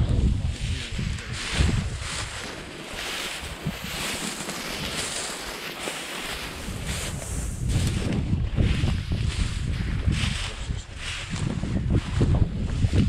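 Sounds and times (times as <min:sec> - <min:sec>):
wind blowing: 0:00.0 - 0:13.0.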